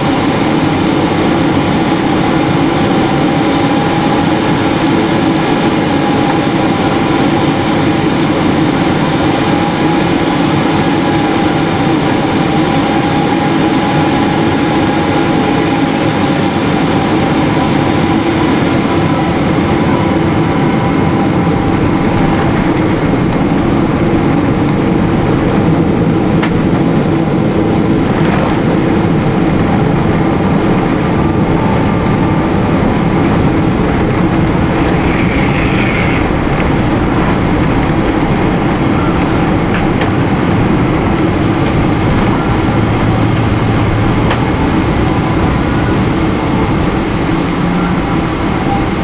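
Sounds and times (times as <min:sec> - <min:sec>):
jet engines in cabin: 0:00.0 - 0:49.0
runway rumble: 0:00.0 - 0:49.0.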